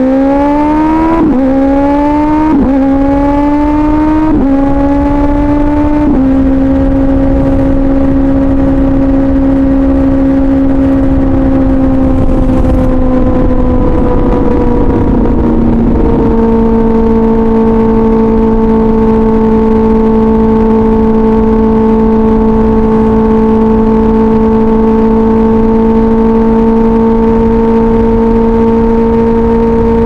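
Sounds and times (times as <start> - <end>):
motorcycle engine at steady revs: 0.0 - 30.0.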